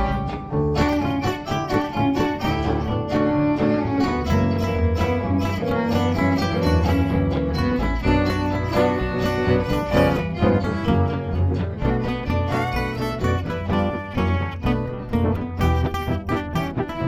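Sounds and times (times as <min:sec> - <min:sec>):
low bass line: 0:00.0 - 0:17.0
string instrument music: 0:00.0 - 0:17.0.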